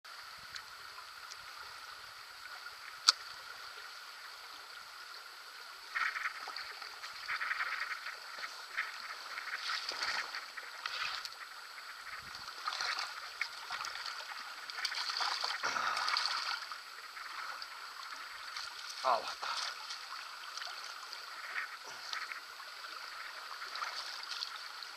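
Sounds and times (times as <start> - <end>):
stream running over stones: 0.1 - 24.9.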